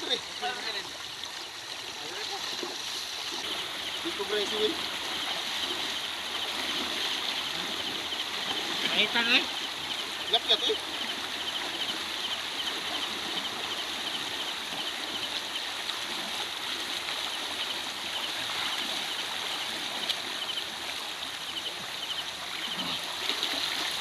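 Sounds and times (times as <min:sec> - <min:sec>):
insects chirping: 0:00.0 - 0:15.8, 0:16.5 - 0:24.0
river water rushing: 0:00.0 - 0:24.0.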